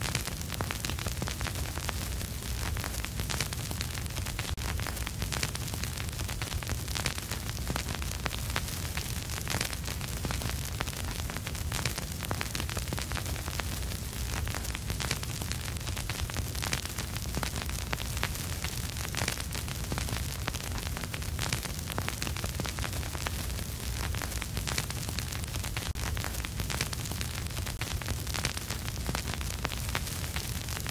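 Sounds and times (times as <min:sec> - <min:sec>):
vinyl crackles and pops: 0:00.0 - 0:30.9
vinyl record hiss and rumble: 0:00.0 - 0:30.9.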